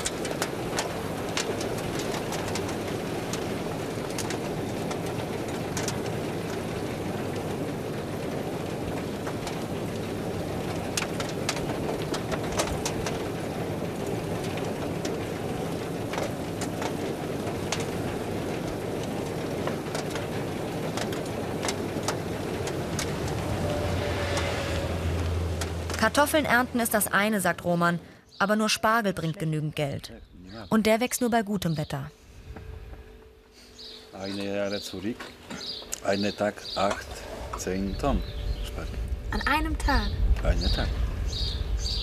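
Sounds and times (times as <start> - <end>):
harvester conveyors rattling: 0.0 - 29.9, 33.0 - 42.0.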